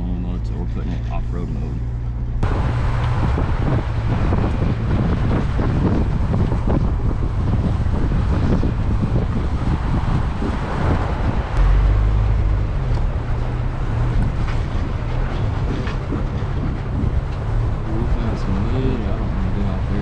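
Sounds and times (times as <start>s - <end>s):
low engine drone: 0.0s - 20.0s
wind buffeting microphone: 0.4s - 20.0s.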